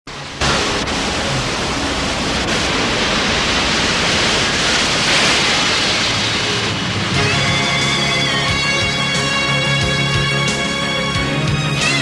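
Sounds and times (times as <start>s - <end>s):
ocean surf breaking: 0.1s - 12.0s.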